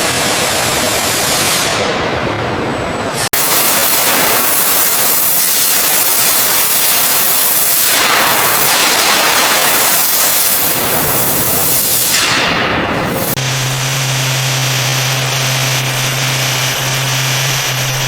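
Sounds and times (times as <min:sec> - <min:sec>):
high-pressure spray jet hiss: 0:03.2 - 0:18.0.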